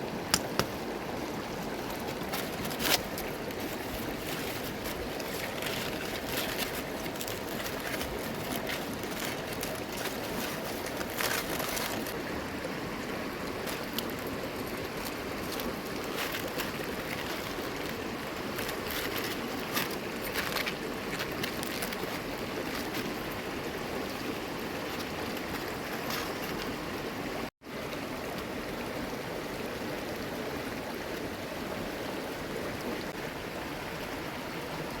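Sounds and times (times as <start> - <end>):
river flowing: 0.0 - 35.0.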